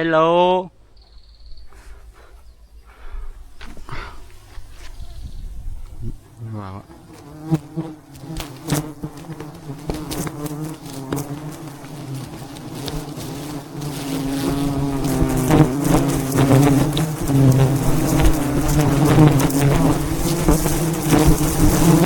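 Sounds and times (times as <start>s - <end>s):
honeybees buzzing: 0.7s - 22.0s.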